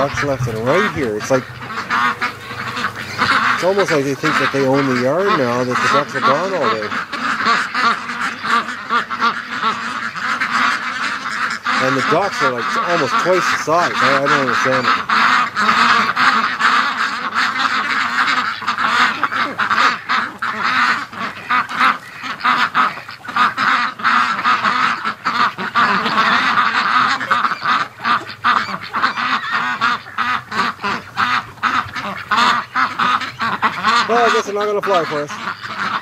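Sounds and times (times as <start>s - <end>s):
ducks quacking: 0.0s - 36.0s.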